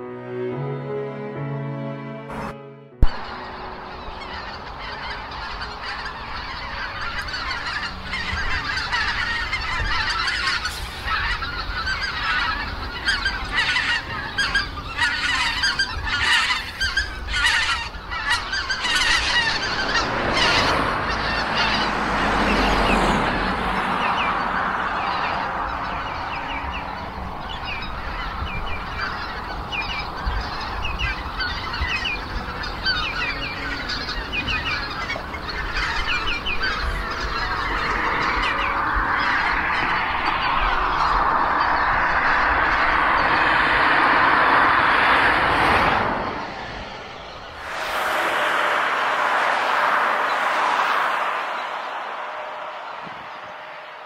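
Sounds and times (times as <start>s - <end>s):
rushing noise: 2.3s - 54.0s
geese honking in flight: 3.2s - 54.0s.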